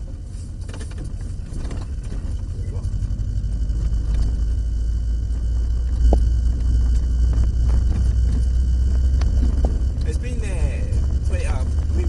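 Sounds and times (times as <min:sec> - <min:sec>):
car engine rumble from cabin: 0:00.0 - 0:12.0.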